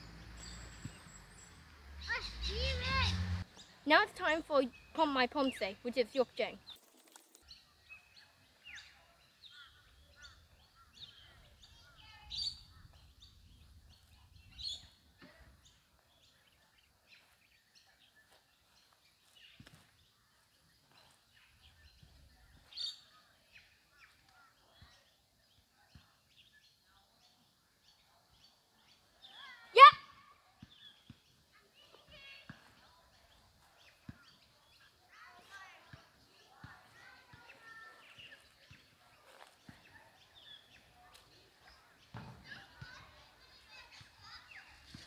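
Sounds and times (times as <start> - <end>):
faint birdsong: 0.0 - 45.0.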